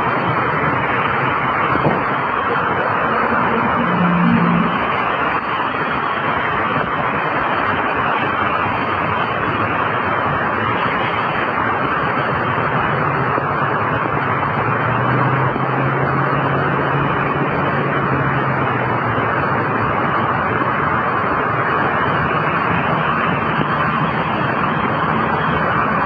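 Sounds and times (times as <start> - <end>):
racing vehicles rushing on wet track: 0.0 - 26.0.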